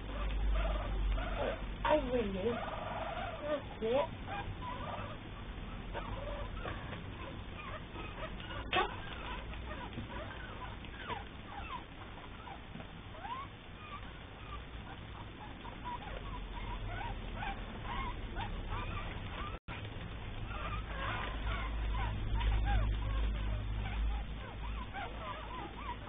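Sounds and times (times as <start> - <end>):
puppies squeaking and whimpering: 0.0 - 26.0.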